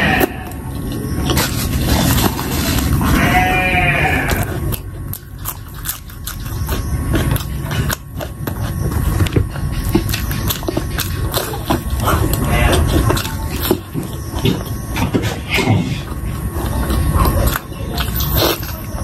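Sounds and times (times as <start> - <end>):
crunchy chewing: 0.0 - 19.0
nasal hum: 0.0 - 19.0.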